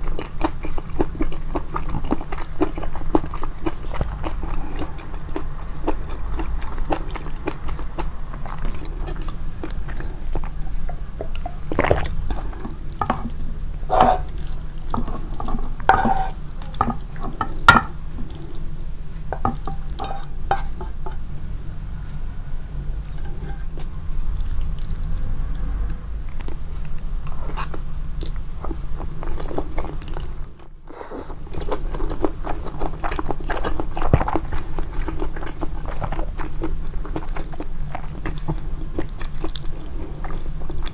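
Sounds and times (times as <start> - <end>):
close-miked noodle chewing: 0.0 - 21.2, 26.4 - 40.9.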